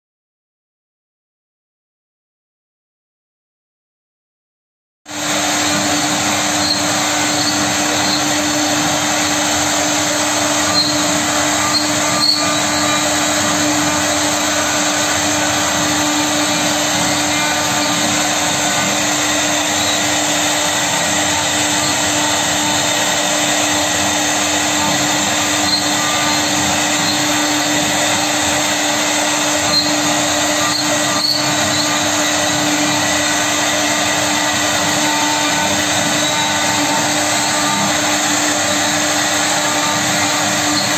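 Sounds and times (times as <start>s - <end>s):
cnc router routing wood: 5.1s - 40.9s.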